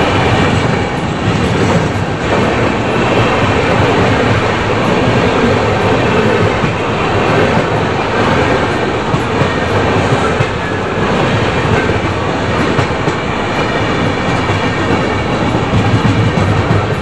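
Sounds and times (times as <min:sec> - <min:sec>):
trains rushing on rails: 0:00.0 - 0:17.0.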